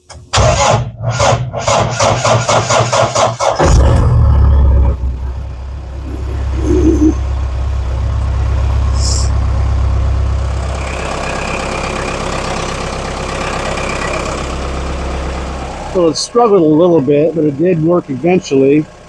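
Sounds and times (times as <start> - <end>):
diesel engine idling: 3.7 - 19.0.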